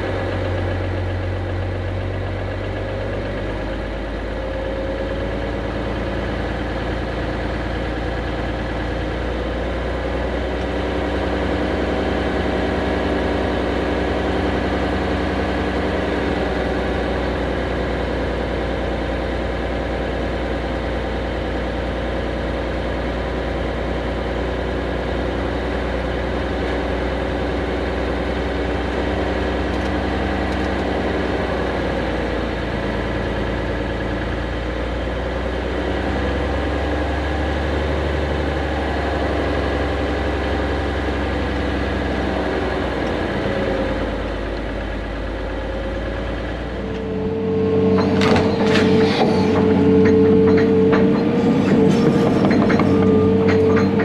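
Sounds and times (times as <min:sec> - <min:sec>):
heavy equipment engine rumbling: 0:00.0 - 0:54.0.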